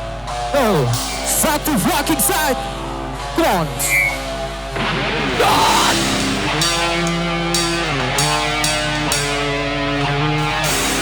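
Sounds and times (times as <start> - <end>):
distorted electric guitars: 0.0 - 11.0
drums: 0.0 - 11.0
cymbal crashes: 0.6 - 11.0.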